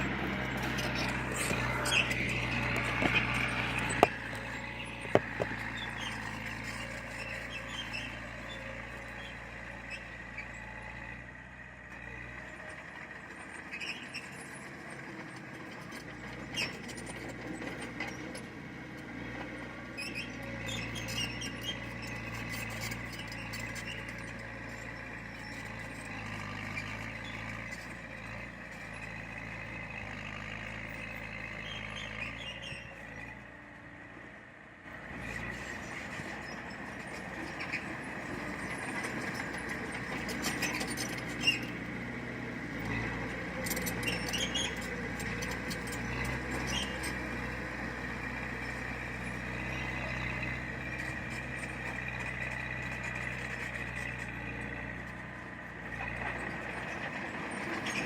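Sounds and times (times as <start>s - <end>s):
diesel machinery running: 0.0s - 58.0s.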